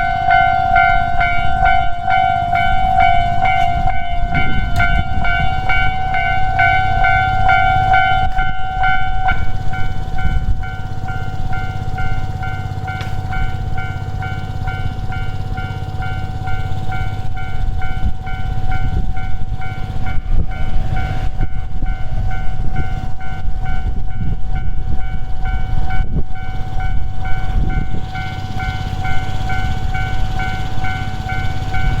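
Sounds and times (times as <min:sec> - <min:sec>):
level crossing warning bell: 0:00.0 - 0:32.0
train wheels rumbling on rails: 0:00.0 - 0:32.0.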